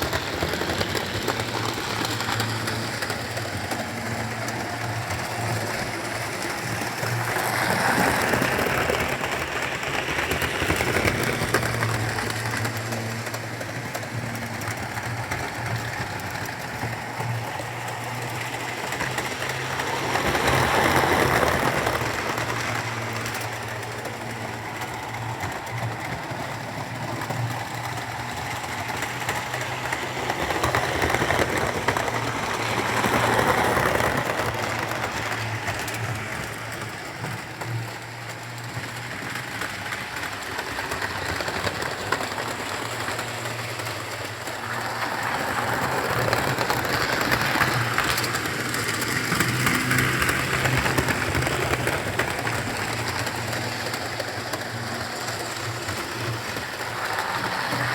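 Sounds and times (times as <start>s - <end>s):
model train motor hum: 0.0s - 57.9s
wheels rolling on rails: 0.0s - 57.9s.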